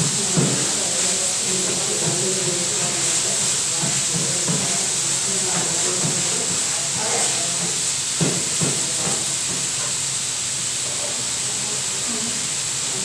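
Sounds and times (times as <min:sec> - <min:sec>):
vegetables sizzling in a skillet: 0:00.0 - 0:13.0.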